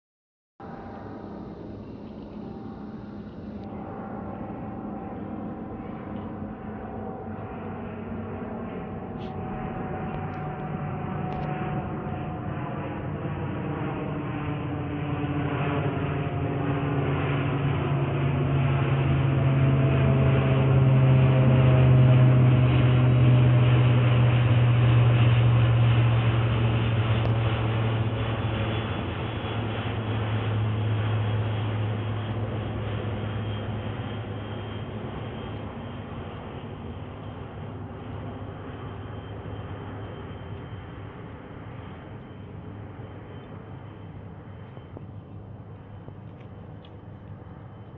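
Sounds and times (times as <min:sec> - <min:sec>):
turboprop plane droning past: 0:00.6 - 0:47.9.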